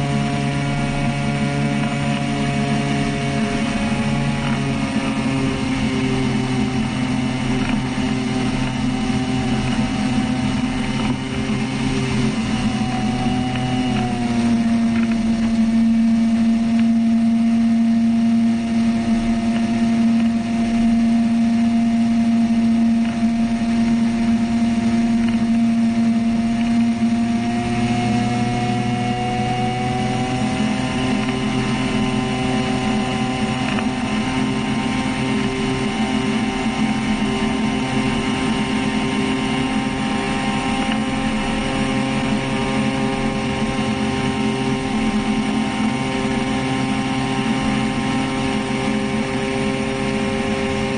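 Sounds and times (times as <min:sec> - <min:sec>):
small engine driving propeller: 0:00.0 - 0:50.9.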